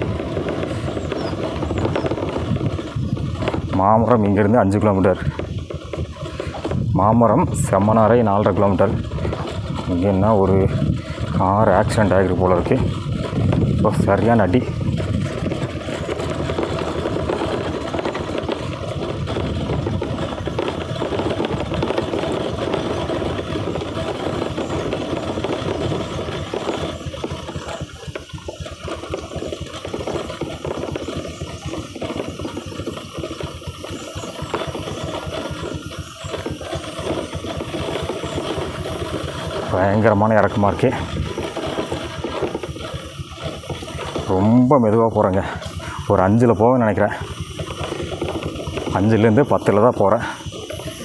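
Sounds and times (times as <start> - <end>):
vehicle road rumble: 0.0 - 51.0
wind on microphone: 0.0 - 51.0.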